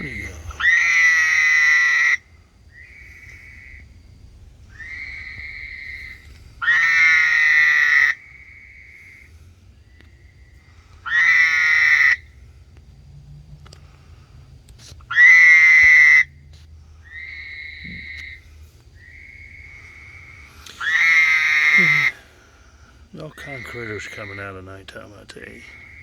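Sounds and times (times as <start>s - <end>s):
frog mating call: 0.0s - 4.0s, 4.7s - 9.3s, 9.9s - 12.4s, 15.0s - 26.0s.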